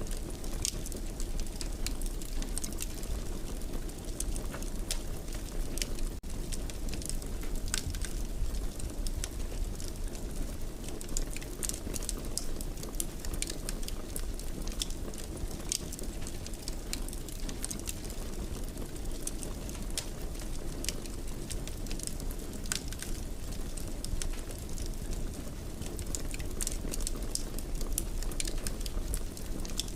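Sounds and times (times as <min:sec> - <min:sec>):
low rumble of flames: 0:00.0 - 0:29.9
wood fire crackling: 0:00.0 - 0:29.9.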